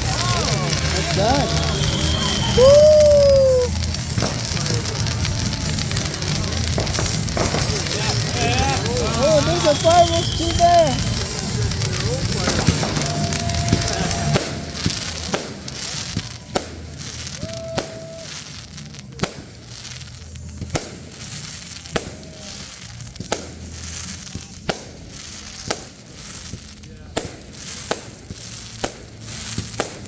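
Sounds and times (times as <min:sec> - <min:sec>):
firework shells bursting: 0:00.0 - 0:30.0.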